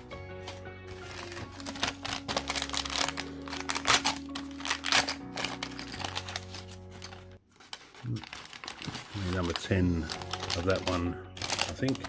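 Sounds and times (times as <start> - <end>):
background music with sustained notes: 0.0 - 7.4, 9.2 - 12.0
plastic wrapper crinkling and tearing: 0.4 - 12.0.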